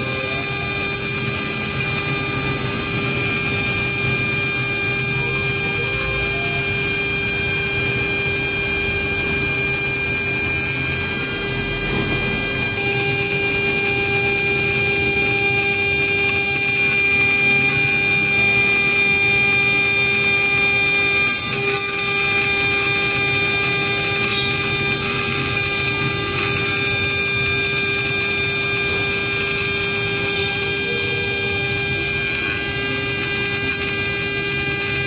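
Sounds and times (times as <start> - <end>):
end mill cutting metal: 0.0 - 35.0
spindle whine: 0.0 - 35.0.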